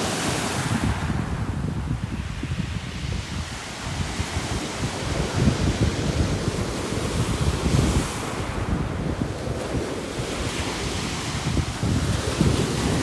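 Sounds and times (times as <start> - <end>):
storm waves breaking on shore: 0.0 - 13.0
wind buffeting microphone: 0.0 - 13.0.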